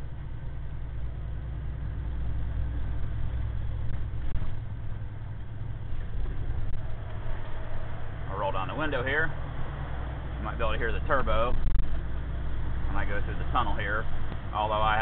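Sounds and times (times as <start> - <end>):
diesel engine low drone: 0.0 - 15.0.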